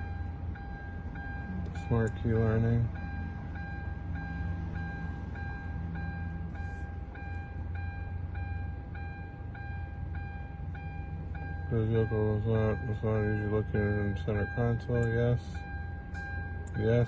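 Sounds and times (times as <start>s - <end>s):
electronic warning beeps: 0.0s - 17.0s
low hum: 0.0s - 17.0s
steady high tone: 0.0s - 17.0s.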